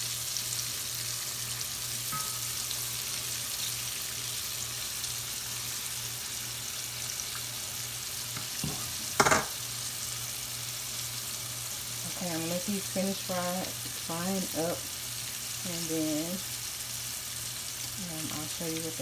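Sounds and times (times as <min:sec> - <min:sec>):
shrimp sizzling in oil: 0:00.0 - 0:19.0.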